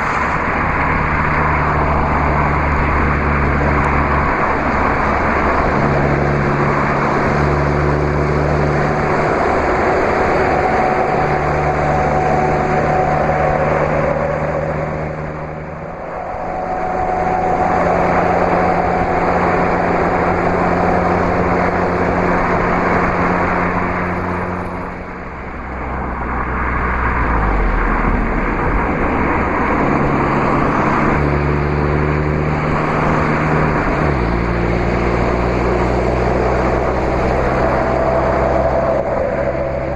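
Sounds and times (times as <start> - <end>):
highway traffic rumble: 0.0 - 39.9.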